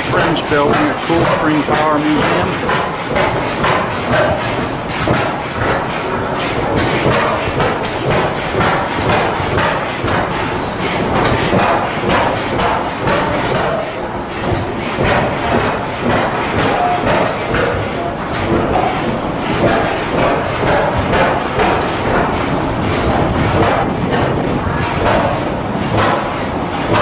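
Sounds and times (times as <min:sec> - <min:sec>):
stationary gas engines running: 0:00.0 - 0:27.0.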